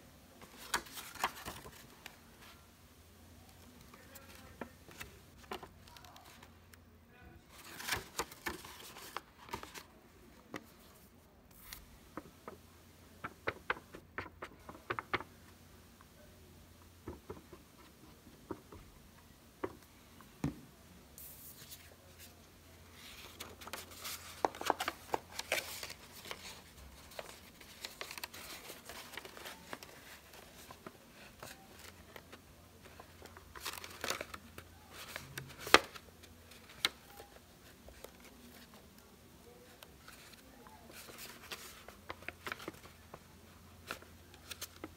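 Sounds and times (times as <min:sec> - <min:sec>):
paper rustling and crinkling: 0:00.4 - 0:02.6, 0:03.6 - 0:06.6, 0:07.5 - 0:15.4, 0:21.2 - 0:44.9.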